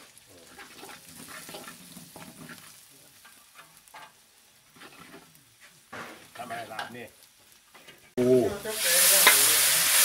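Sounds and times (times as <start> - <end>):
paste sizzling in hot oil: 0.0 - 10.0
metal spatula scraping a wok: 0.4 - 6.4, 7.8 - 10.0.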